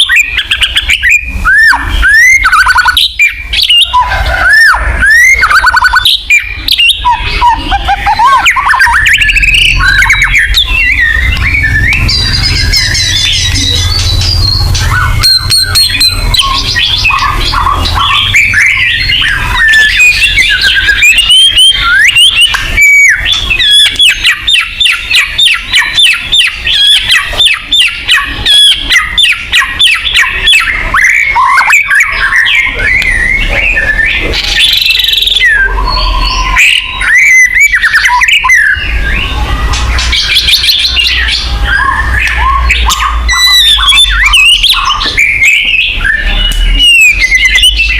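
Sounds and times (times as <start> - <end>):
songbird singing whistled phrases: 0.0 - 47.9.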